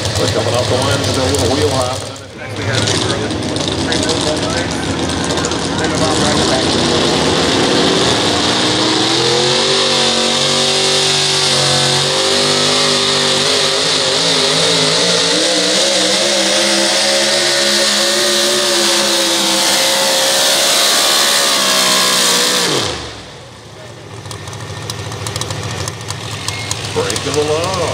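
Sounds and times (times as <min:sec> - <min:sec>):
truck engine at full throttle: 0:00.0 - 0:27.9.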